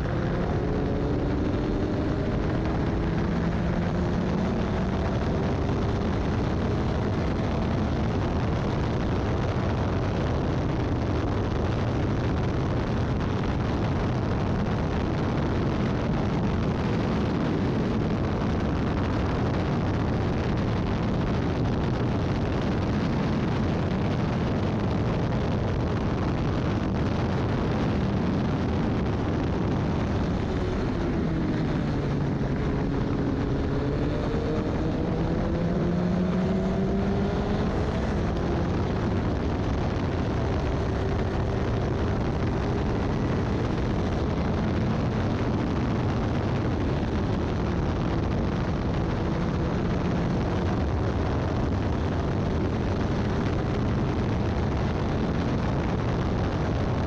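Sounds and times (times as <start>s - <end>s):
race car engine: 0.0s - 56.7s
rush of noise: 0.0s - 57.0s.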